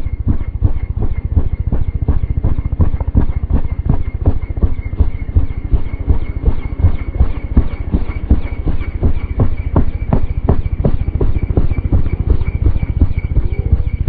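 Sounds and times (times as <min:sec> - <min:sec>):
helicopter high whine: 0:00.0 - 0:14.0
helicopter rotor chop: 0:00.0 - 0:14.0.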